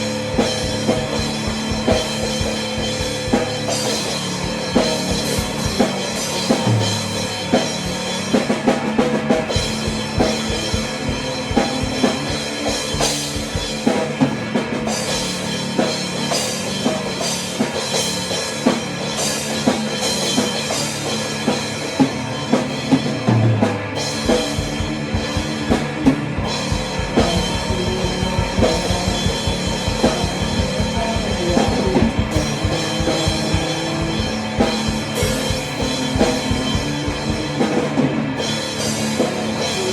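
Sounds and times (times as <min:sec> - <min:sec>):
rock music with drum kit: 0:00.0 - 0:39.9.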